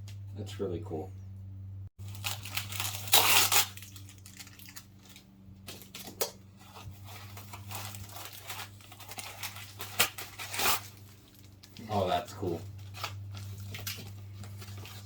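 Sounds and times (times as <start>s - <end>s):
low electrical hum: 0.0s - 15.0s
packaging rustling and tearing: 2.0s - 6.2s, 6.8s - 15.0s.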